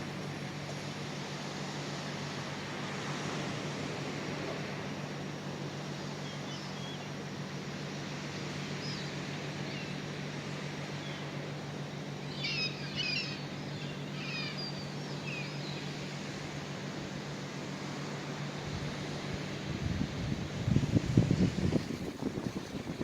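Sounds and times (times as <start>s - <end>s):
sea surf: 0.0s - 23.0s
wind: 0.0s - 23.0s.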